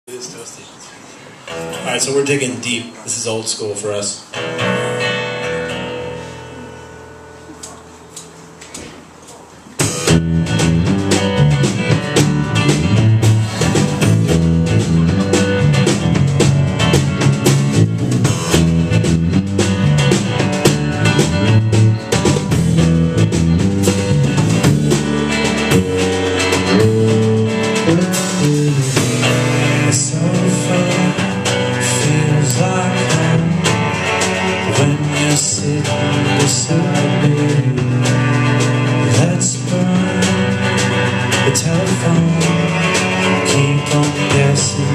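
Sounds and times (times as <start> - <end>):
live band playing: 0.1 - 44.9.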